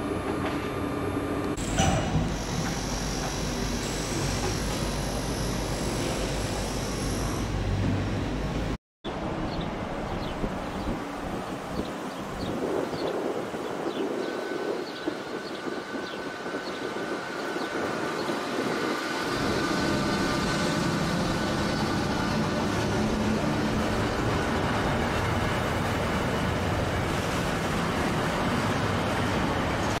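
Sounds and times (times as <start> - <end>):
train rumbling and clattering on rails: 0.0 - 5.1, 7.5 - 30.0
electric locomotive whine: 0.0 - 30.0.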